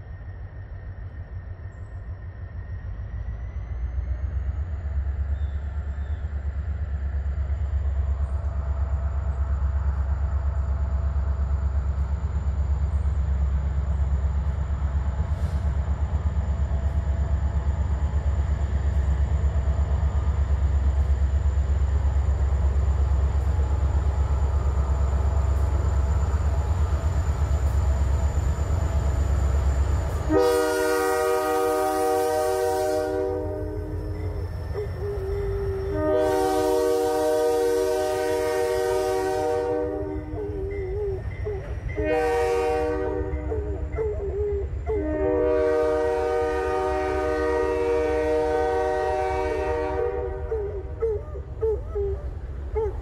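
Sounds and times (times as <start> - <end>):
train passing with low rumble: 0.0 - 53.0.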